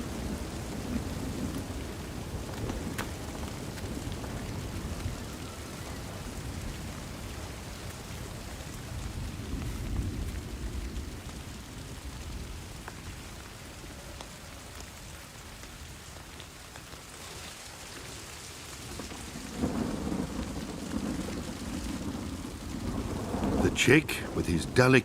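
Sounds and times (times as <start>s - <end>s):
raindrops ticking: 0.0s - 25.0s
steady rain falling: 0.0s - 25.0s.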